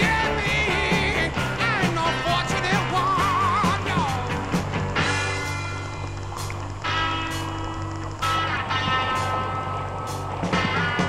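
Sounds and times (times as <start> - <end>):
rock music with guitar: 0.0 - 11.0.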